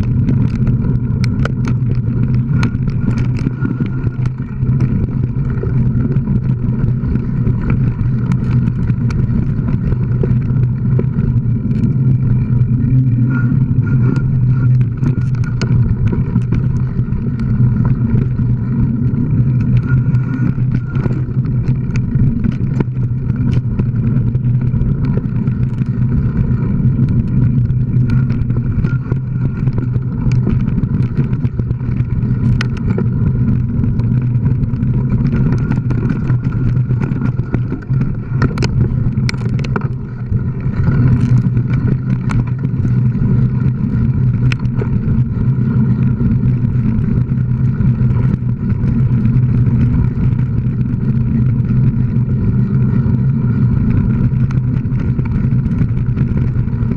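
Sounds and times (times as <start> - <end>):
wind noise on camera: 0.0 - 56.9.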